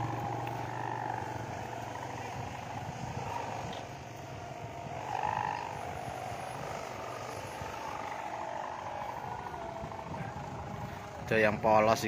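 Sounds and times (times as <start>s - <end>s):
humming drone of kite hummers: 0.0s - 12.0s.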